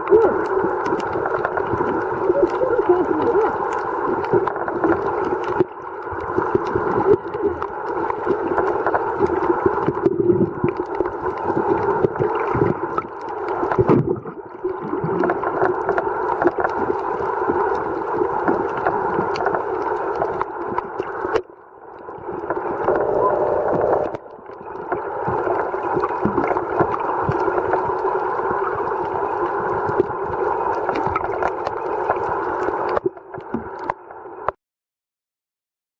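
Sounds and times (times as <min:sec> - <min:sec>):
muffled underwater crackling: 0:00.0 - 0:34.6.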